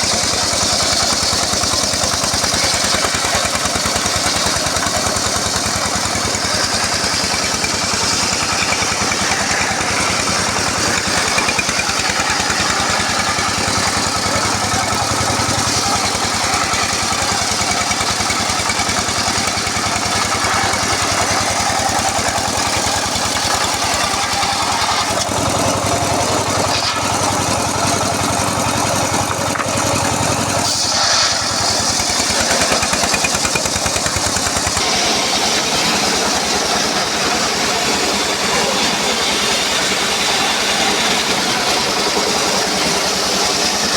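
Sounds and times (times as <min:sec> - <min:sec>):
saw blade hissing: 0:00.0 - 0:43.9
sawmill engine pulsing: 0:00.0 - 0:43.9.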